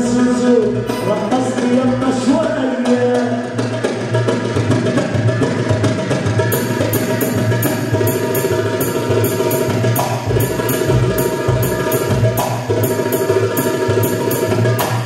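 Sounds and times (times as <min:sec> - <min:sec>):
hand percussion beat: 0:00.0 - 0:15.0.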